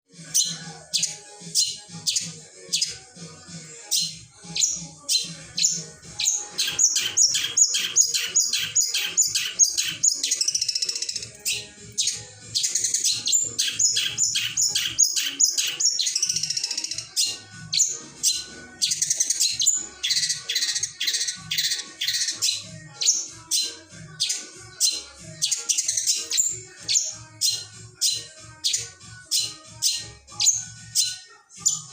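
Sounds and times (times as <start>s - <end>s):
bird singing with trills: 0.2s - 31.9s.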